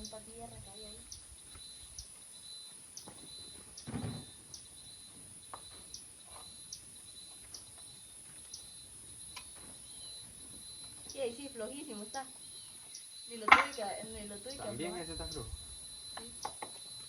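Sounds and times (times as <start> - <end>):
insects trilling: 0.0 - 17.0
short insect chirp: 0.0 - 17.0.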